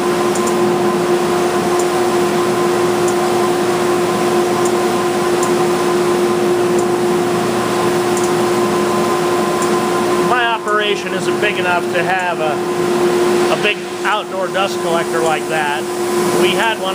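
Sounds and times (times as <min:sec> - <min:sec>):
belt sander humming: 0:00.0 - 0:16.9.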